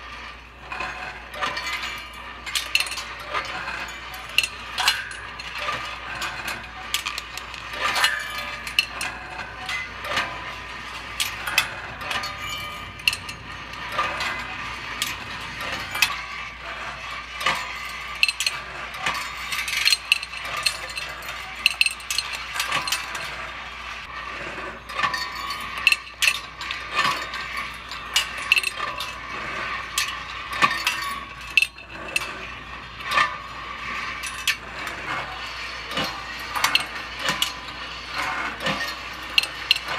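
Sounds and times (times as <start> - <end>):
steel balls clicking on wire tracks: 0.0 - 39.9.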